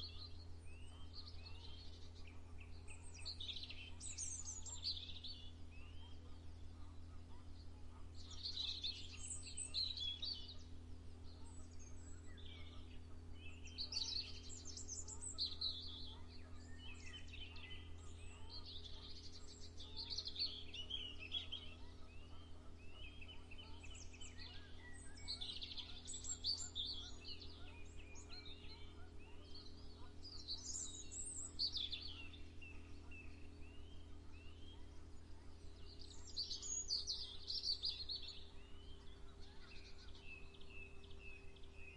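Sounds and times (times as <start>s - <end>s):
faint low hum: 0.0s - 41.9s
songbirds chirping and trilling: 0.0s - 41.9s.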